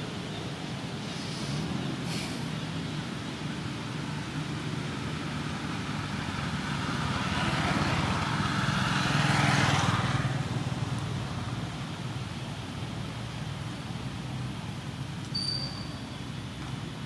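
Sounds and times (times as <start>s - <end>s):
vehicle passing on road: 0.0s - 17.0s.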